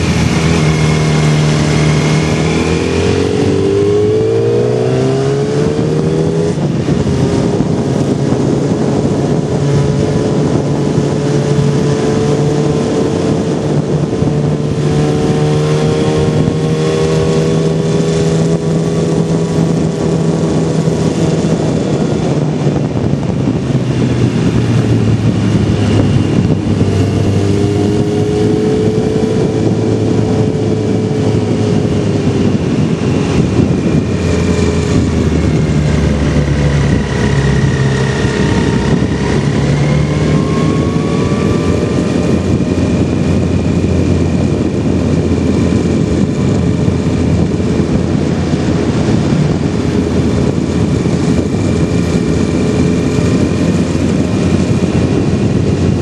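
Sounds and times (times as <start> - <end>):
motorcycle engine accelerating: 0.0 - 56.0
wind and road rush: 0.0 - 56.0.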